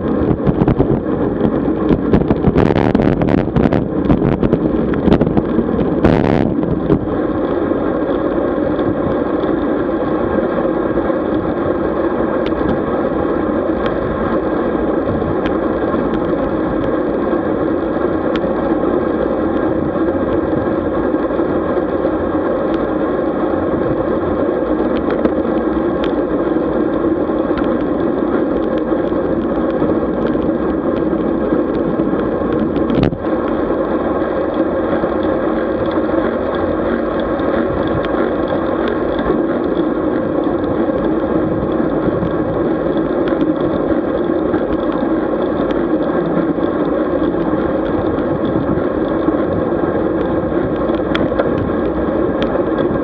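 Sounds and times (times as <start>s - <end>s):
road noise droning hum: 0.0s - 53.0s
rush of wind: 0.0s - 53.0s.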